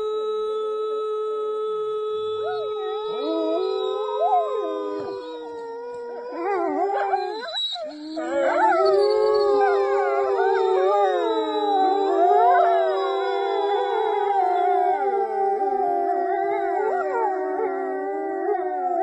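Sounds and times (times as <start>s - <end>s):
woman howling: 2.0s - 19.0s
wolves howling in chorus: 2.4s - 19.0s.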